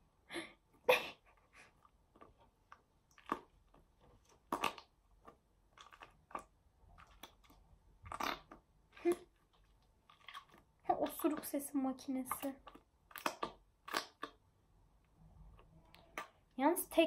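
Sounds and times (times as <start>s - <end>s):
slime squelching: 1.6s - 17.0s.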